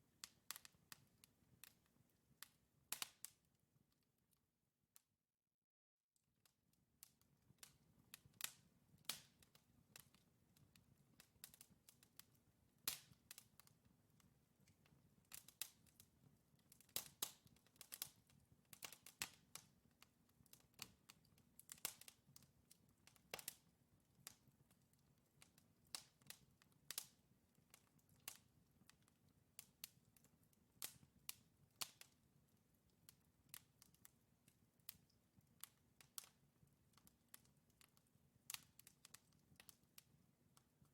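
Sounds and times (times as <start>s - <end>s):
wood fire crackling and popping: 0.1s - 3.5s, 7.0s - 40.9s.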